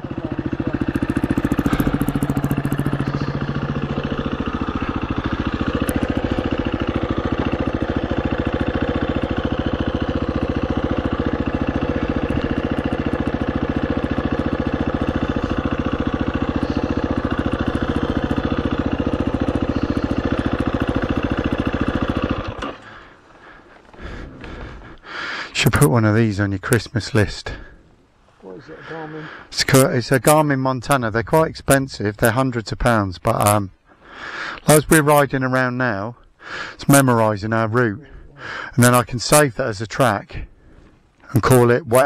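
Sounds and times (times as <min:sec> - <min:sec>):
dirt bike engine idling: 0:00.0 - 0:42.0.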